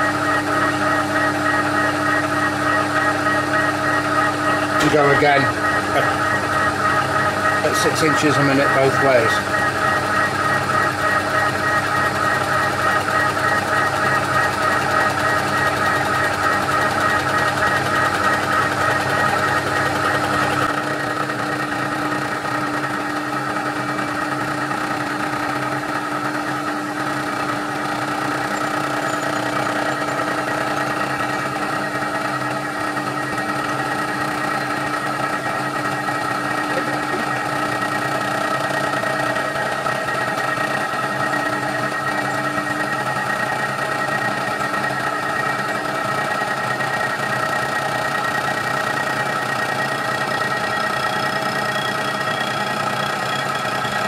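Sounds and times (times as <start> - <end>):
milling machine cutting metal: 0.0 - 54.0.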